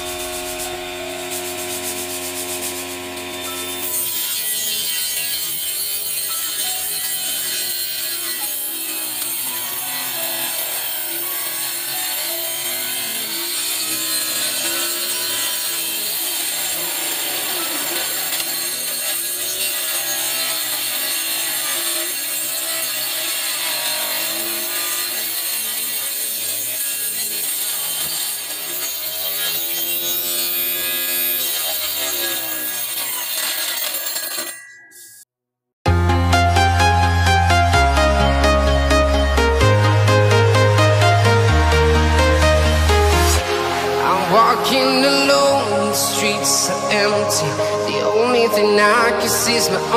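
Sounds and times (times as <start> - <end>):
small table saw cutting wood: 0.0 - 35.0, 36.8 - 49.9.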